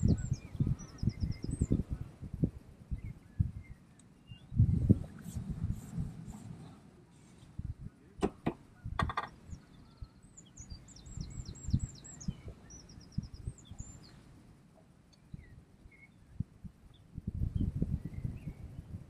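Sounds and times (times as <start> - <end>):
songbird singing and trilling: 0.0 - 5.2, 8.2 - 19.0
low irregular rumble: 0.0 - 19.0.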